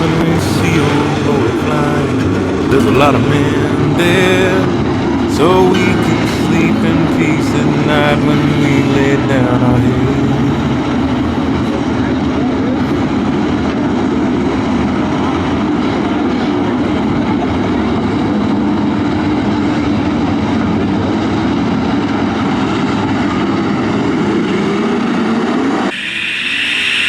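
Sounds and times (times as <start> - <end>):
race truck engines: 0.0 - 26.0
high-pitched engine noise: 0.0 - 27.0.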